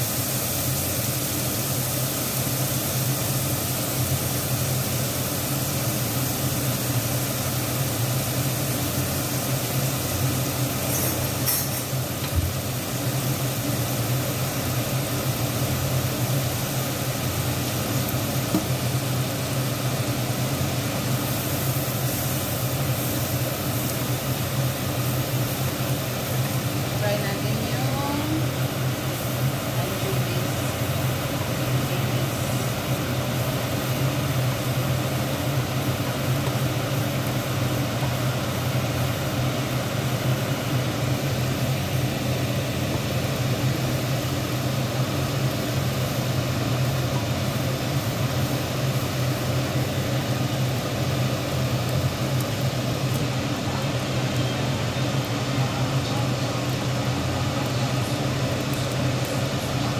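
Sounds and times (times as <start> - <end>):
kitchen fan running: 0.0 - 59.9.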